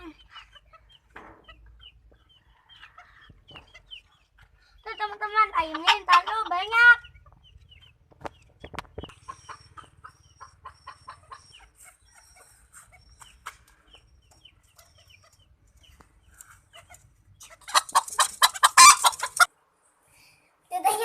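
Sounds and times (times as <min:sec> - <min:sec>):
high chick peeps: 0:00.0 - 0:19.5
chickens clucking: 0:00.0 - 0:19.6.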